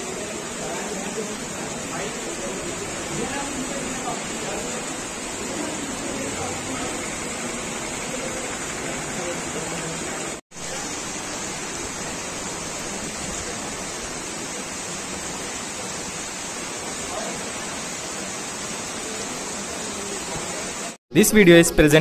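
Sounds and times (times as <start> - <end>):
heavy rain on roofs: 0.0 - 21.0.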